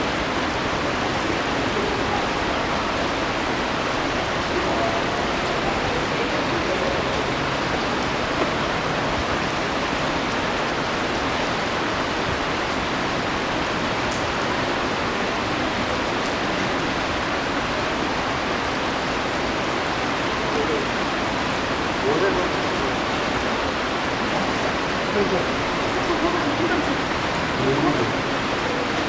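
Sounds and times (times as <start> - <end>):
water flowing in a stream: 0.0 - 29.0.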